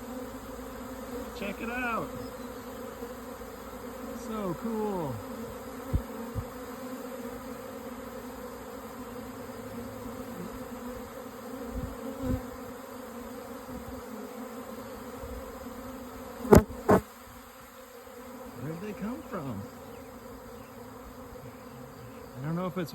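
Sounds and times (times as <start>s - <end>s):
bee swarm buzzing: 0.0s - 22.9s.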